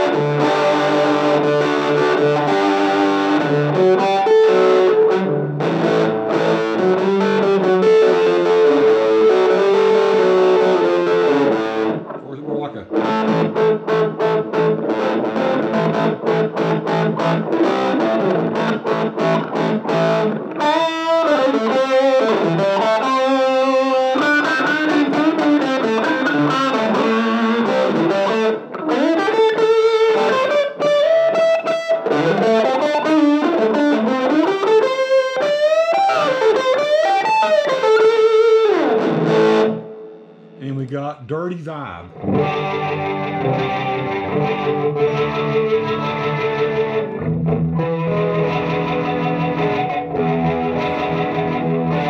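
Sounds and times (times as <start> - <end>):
electric guitar blues-rock licks: 0.0 - 40.6, 41.4 - 52.0
electric guitar chord strums: 0.0 - 40.6, 42.1 - 52.0.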